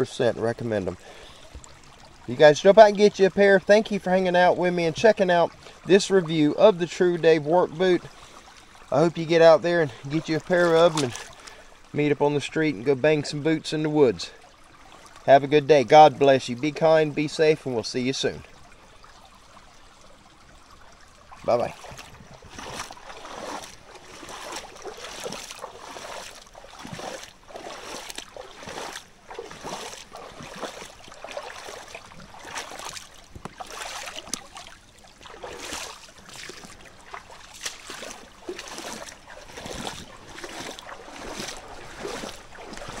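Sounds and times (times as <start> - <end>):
boots sloshing through water: 0.0 - 43.0
running water: 0.0 - 43.0.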